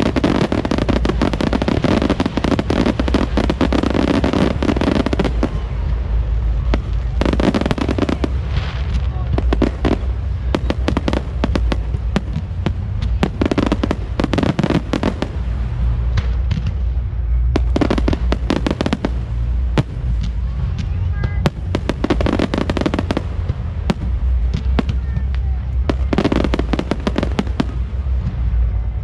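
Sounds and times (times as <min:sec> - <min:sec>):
fireworks crackling and banging: 0:00.0 - 0:29.0
low rumble: 0:00.0 - 0:29.0.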